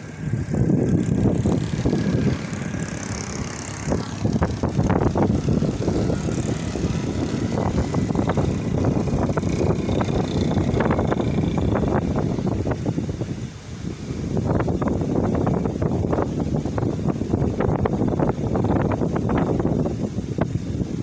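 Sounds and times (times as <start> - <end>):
gusty wind on microphone: 0.0 - 21.0.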